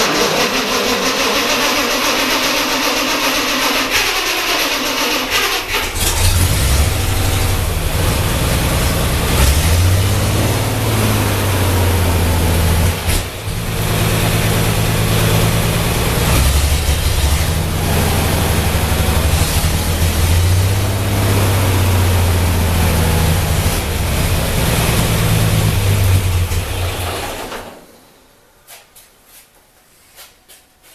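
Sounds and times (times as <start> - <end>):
tractor engine running: 0.0 - 27.8.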